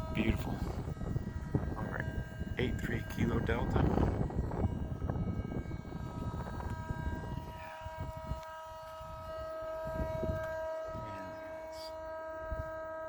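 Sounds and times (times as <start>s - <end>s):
machinery whine: 0.0s - 13.0s
wind buffeting microphone: 0.0s - 13.0s.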